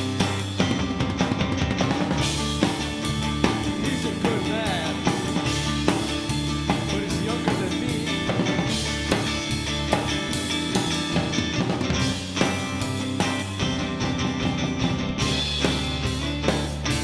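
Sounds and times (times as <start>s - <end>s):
drum kit steady beat: 0.0s - 17.0s
noise rock band playing: 0.0s - 17.0s.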